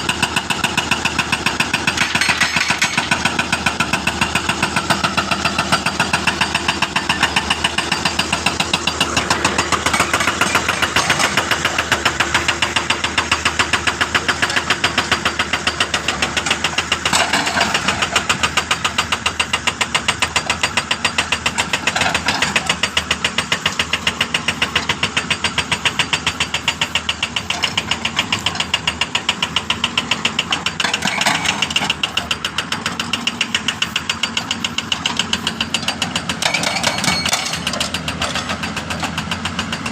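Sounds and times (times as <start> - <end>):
engine running: 0.0 - 39.9
jackhammer hammering: 0.0 - 39.9.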